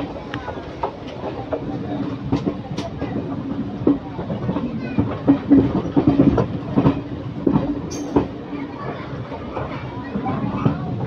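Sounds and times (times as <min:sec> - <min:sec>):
train wheels clattering over rail joints: 0:00.1 - 0:11.0.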